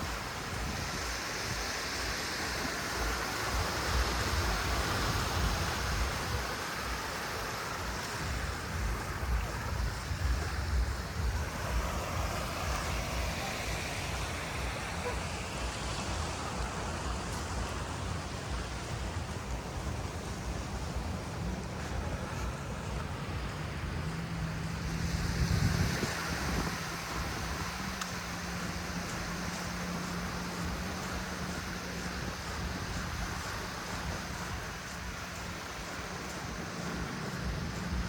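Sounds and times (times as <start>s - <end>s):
rain: 0.0s - 38.0s
sea surf washing in: 0.0s - 38.0s
wind buffeting microphone: 0.0s - 38.0s.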